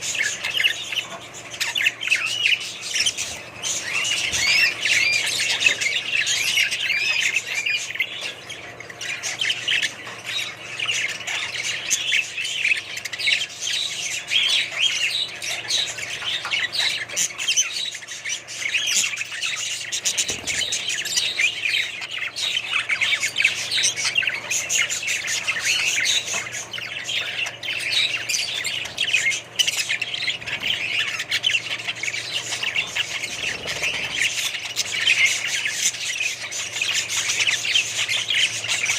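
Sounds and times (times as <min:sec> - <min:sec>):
parrots chirping and squawking: 0:00.0 - 0:38.9.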